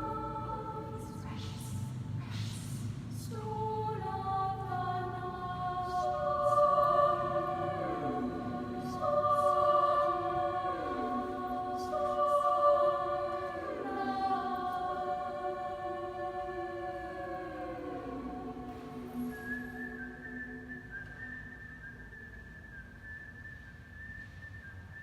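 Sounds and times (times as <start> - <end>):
choir singing: 0.0 - 21.8.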